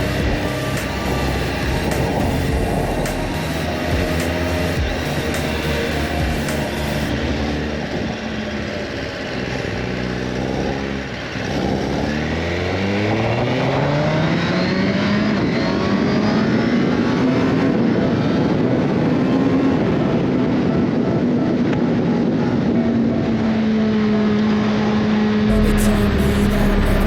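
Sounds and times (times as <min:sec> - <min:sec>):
motorcycle engine accelerating: 0:00.0 - 0:20.0, 0:23.7 - 0:27.0.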